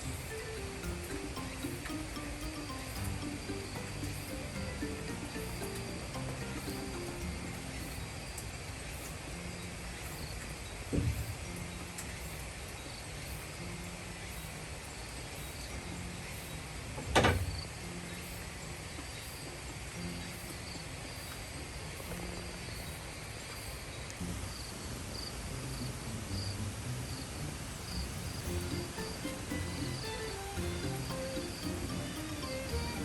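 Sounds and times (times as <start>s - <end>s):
faint chirping insects: 0.0s - 33.0s
outdoor background hiss: 0.0s - 33.0s.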